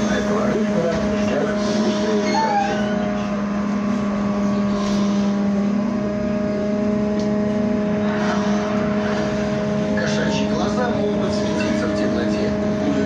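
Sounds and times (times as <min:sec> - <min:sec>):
electric traction drive hum: 0:00.0 - 0:13.0
road and tyre noise: 0:00.0 - 0:13.0.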